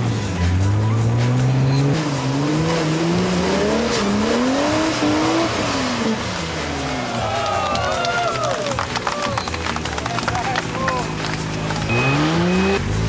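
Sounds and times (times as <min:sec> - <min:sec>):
vehicle engine revving: 0:00.0 - 0:07.5, 0:08.8 - 0:13.0.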